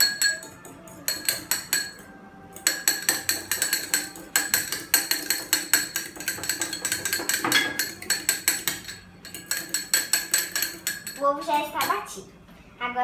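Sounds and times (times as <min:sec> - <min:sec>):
fork clinking against dish: 0:00.0 - 0:11.2.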